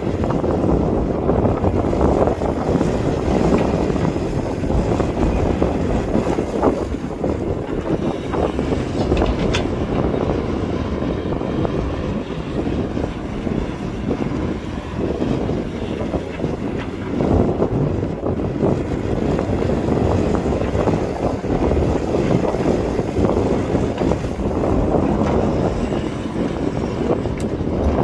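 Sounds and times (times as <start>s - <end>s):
diesel machinery rumbling: 0.0s - 28.0s
wind buffeting microphone: 0.0s - 28.0s.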